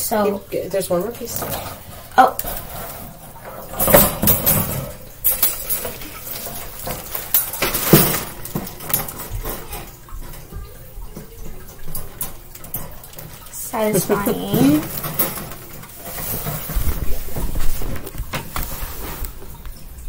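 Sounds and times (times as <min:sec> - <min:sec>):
wire grid panels clinking and rattling: 0:00.0 - 0:20.0.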